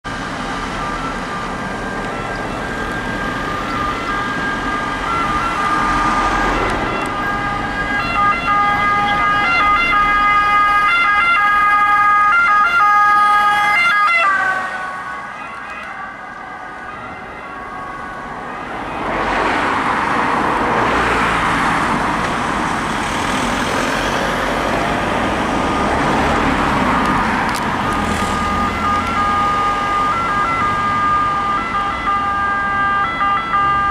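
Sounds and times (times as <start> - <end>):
traffic noise: 0.0 - 33.9
ambulance two-tone siren: 0.1 - 20.7, 25.6 - 33.9.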